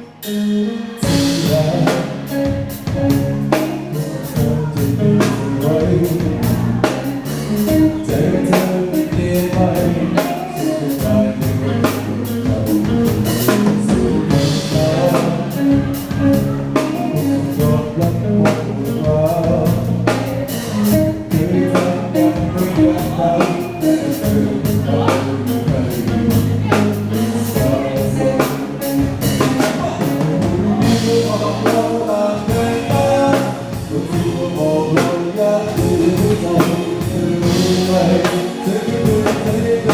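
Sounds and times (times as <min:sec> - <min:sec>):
band music: 0:00.0 - 0:39.9
drum kit beat: 0:00.0 - 0:39.9
person singing: 0:00.0 - 0:39.9.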